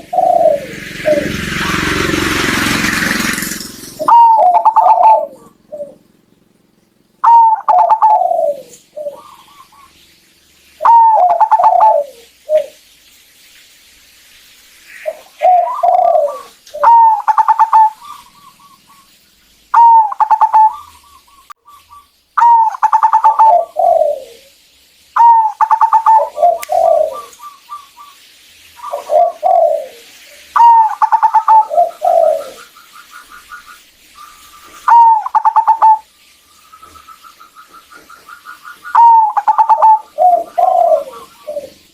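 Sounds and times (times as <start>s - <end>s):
dove cooing: 0.0s - 6.5s, 7.2s - 10.0s, 10.8s - 12.8s, 15.0s - 18.9s, 19.7s - 21.3s, 22.4s - 24.5s, 25.2s - 27.9s, 28.8s - 36.1s, 36.8s - 41.9s.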